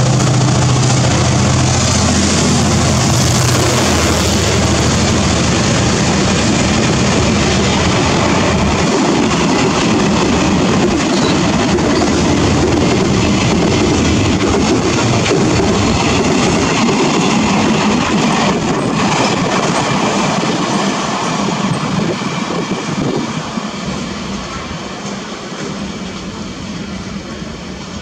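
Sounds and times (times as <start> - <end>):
diesel locomotive engine drone: 0.0 - 28.0
freight wagons rumbling on rails: 0.0 - 28.0.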